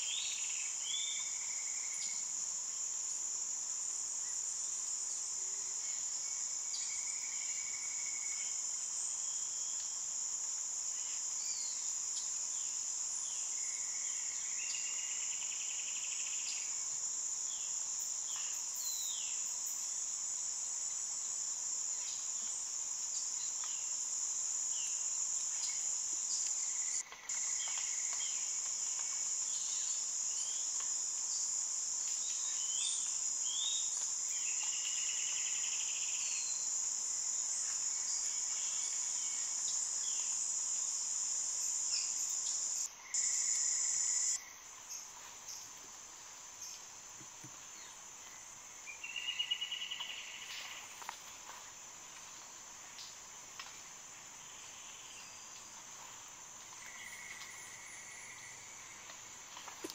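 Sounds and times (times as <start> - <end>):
insect chorus drone: 0.0 - 59.9.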